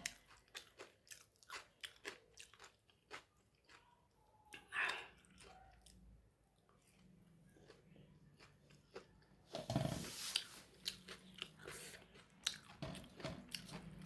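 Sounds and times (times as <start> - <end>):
crunchy chewing of fried food: 0.0 - 14.0.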